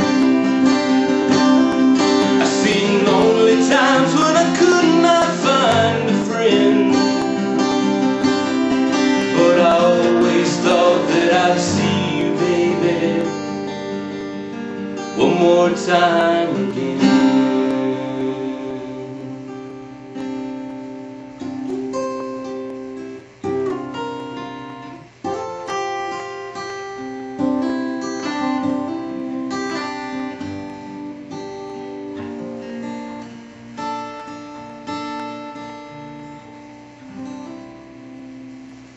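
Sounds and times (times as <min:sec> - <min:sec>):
acoustic guitar chords: 0:00.0 - 0:38.9.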